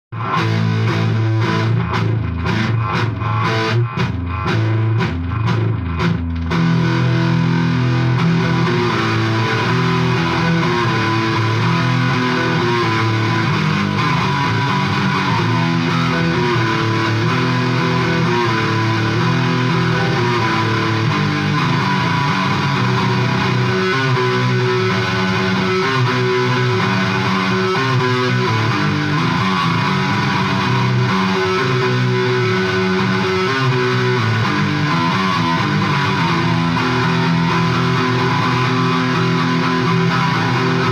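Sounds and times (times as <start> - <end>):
electric guitar playing: 0.1 - 40.9.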